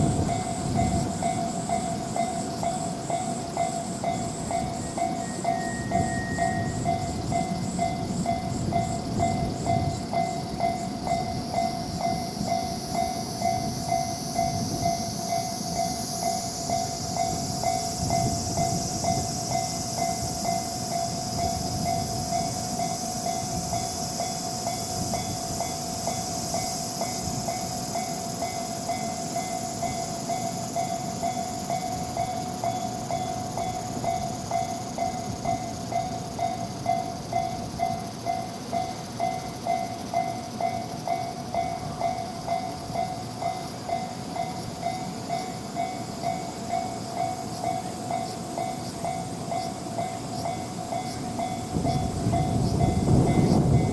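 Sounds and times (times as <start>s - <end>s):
level-crossing warning bell: 0.0s - 53.9s
train rumbling past: 0.0s - 53.9s.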